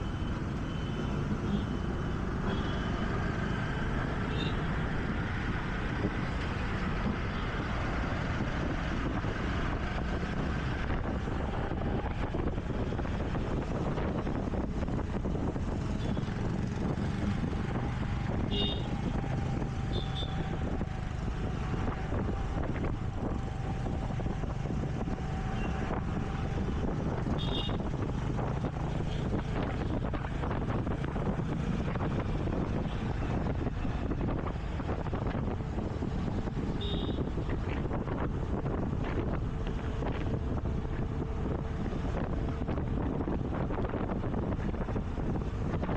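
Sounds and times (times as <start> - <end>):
road noise: 0.0 - 45.9
traffic hum: 0.0 - 45.9
wind rush: 3.1 - 45.9.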